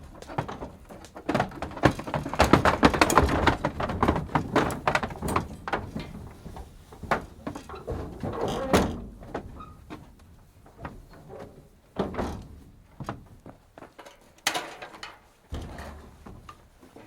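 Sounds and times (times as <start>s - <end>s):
hooves and gates banging: 0.0s - 17.0s.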